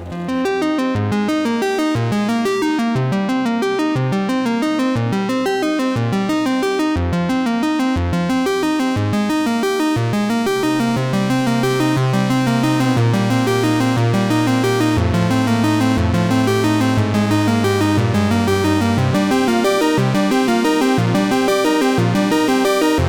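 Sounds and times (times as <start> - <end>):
upbeat electronic music: 0.0 - 23.0.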